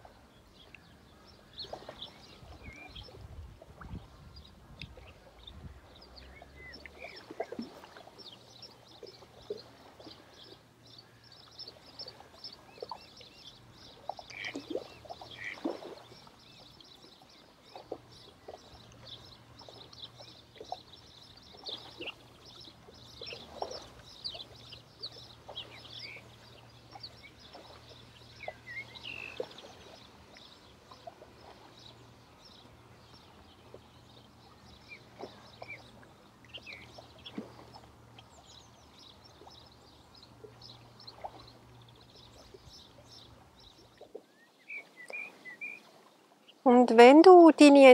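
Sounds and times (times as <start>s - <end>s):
small birds chirping: 0.3s - 3.2s, 3.9s - 47.9s.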